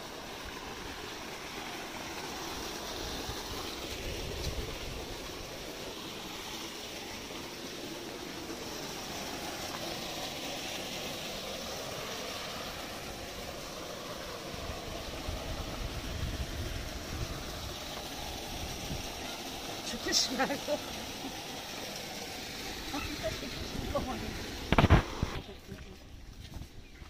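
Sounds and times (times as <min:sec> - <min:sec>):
waterfall splashing into pond: 0:00.0 - 0:26.0.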